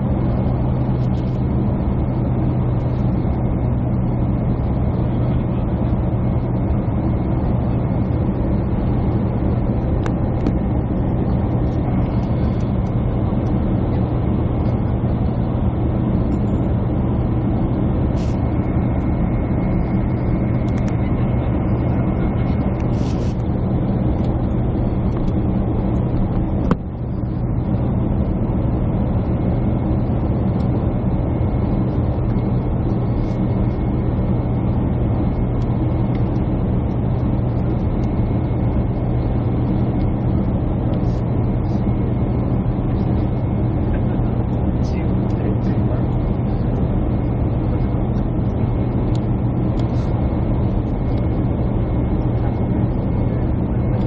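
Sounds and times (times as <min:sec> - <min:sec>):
jet engine and airflow drone: 0:00.0 - 0:54.0.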